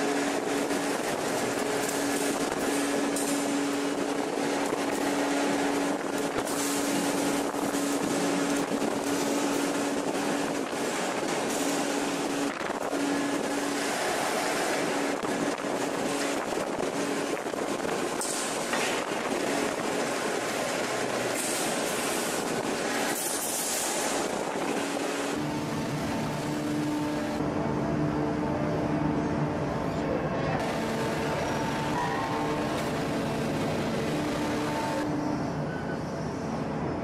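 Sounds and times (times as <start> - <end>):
constant hum: 0.0 - 37.0
machinery drone: 0.0 - 37.0.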